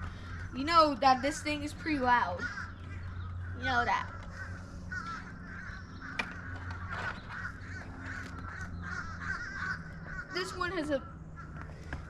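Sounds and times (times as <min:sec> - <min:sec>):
chattering warbling bird calls: 0:00.0 - 0:11.9
low steady hum: 0:00.0 - 0:12.0.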